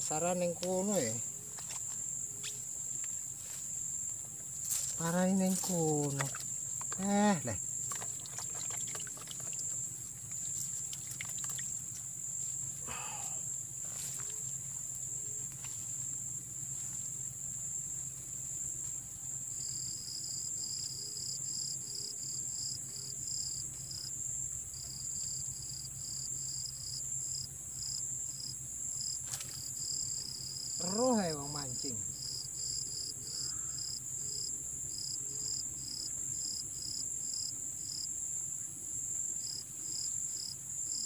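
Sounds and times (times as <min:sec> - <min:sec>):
insect chirping: 0:00.0 - 0:41.0
insects droning high-pitched: 0:00.0 - 0:41.0.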